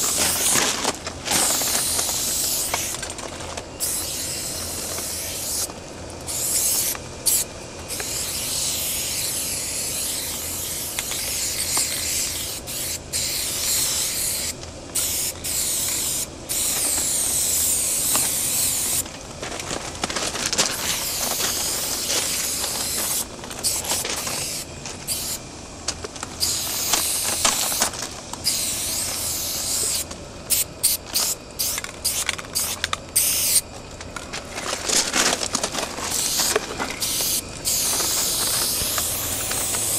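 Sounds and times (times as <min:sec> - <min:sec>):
spray paint can hissing: 0:00.0 - 0:00.6, 0:01.4 - 0:03.0, 0:03.8 - 0:19.0, 0:20.7 - 0:25.4, 0:26.4 - 0:33.6, 0:36.0 - 0:39.9.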